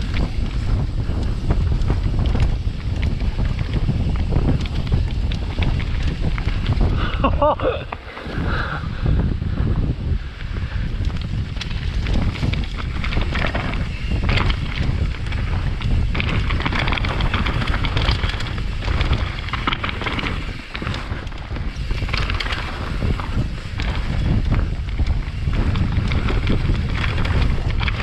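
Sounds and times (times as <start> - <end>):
bike rattling over rough trail: 0.0 - 28.0
wind buffeting microphone: 0.0 - 28.0.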